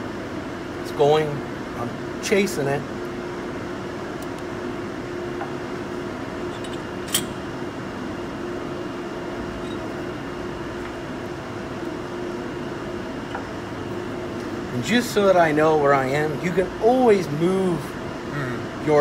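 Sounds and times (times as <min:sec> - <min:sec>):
workshop mechanical hum: 0:00.0 - 0:19.0.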